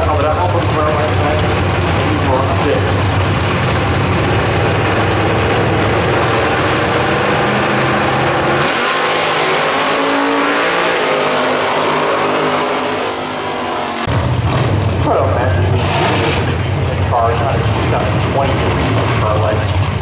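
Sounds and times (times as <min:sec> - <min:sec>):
drag racing car engines revving: 0:00.0 - 0:20.0.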